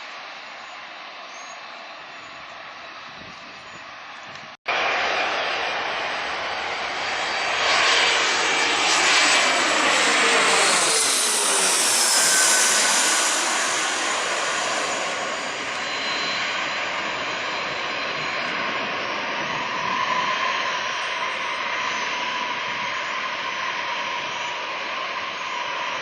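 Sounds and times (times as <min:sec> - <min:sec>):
faint engine whine: 0:00.0 - 0:26.0
jet engines rushing: 0:00.0 - 0:26.0.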